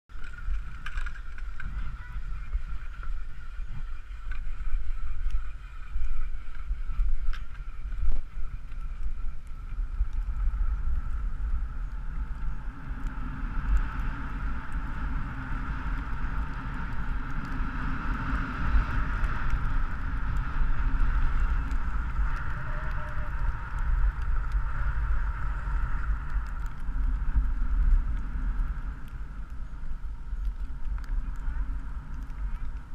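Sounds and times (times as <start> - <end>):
skis sliding over snow: 0.1 - 32.9
wind buffeting microphone: 0.1 - 32.9.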